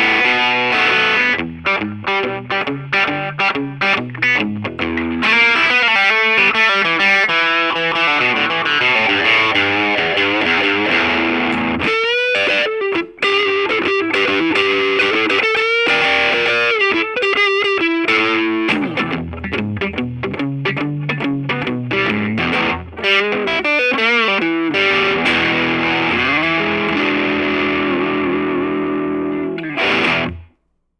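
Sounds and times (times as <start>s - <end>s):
distorted electric guitar: 0.0s - 30.6s.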